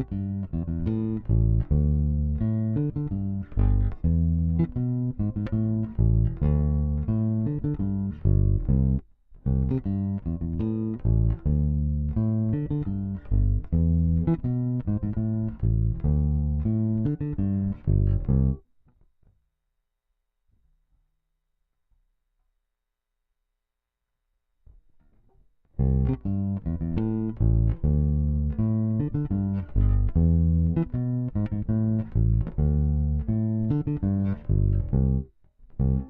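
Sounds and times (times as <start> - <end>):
electric bass plucked notes: 0.0 - 18.6, 25.8 - 36.0.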